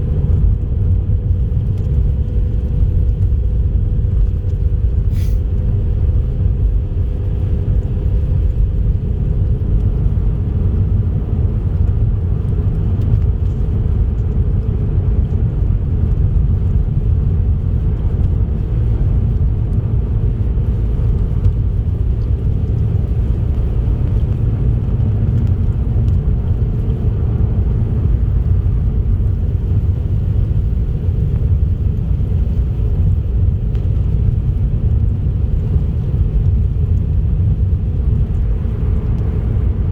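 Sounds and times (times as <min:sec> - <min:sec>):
car road and tyre rumble: 0:00.0 - 0:39.9.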